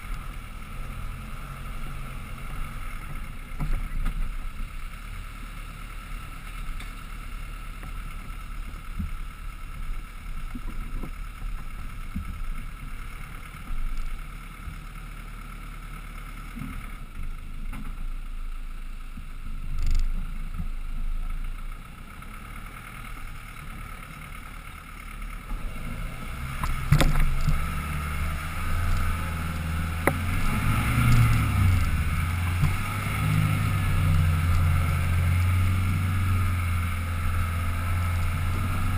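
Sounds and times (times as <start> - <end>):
vehicle engine at low revs: 0.0 - 38.9.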